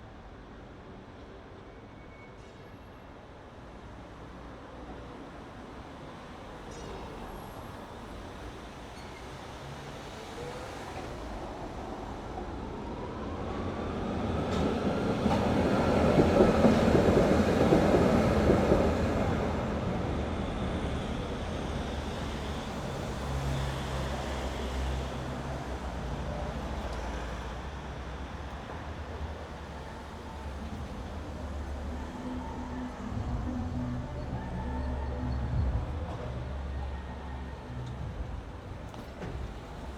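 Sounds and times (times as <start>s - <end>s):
tram rolling rumble: 2.9s - 39.9s.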